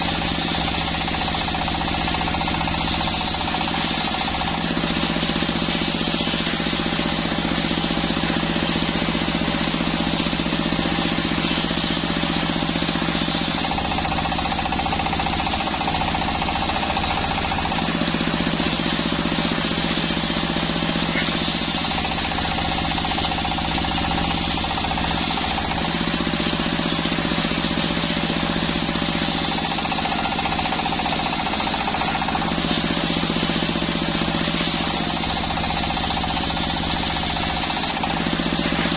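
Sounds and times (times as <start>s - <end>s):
circular saw sawing wood: 0.0s - 38.9s.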